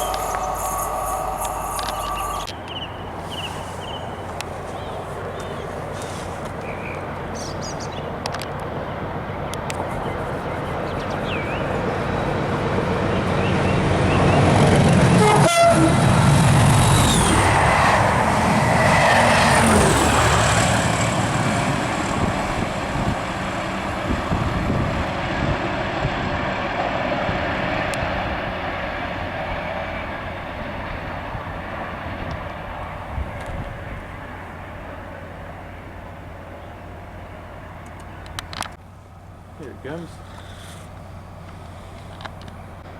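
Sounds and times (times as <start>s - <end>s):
train passing at speed: 0.0s - 40.2s.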